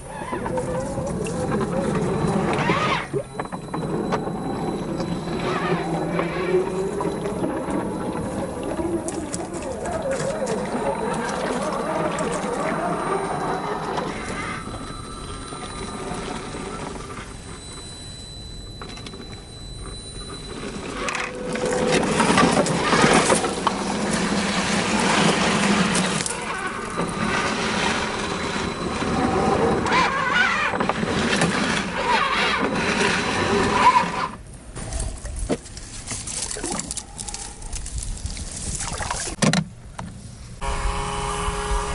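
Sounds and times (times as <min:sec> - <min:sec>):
electric motor and gears whirring: 0:00.0 - 0:39.4, 0:40.6 - 0:41.9.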